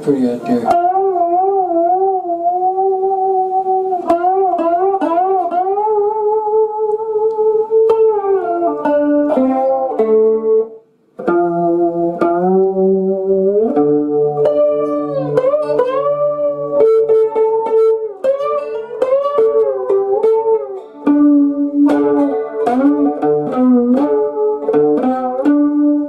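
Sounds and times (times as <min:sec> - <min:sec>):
slide guitar melody: 0:00.0 - 0:26.0.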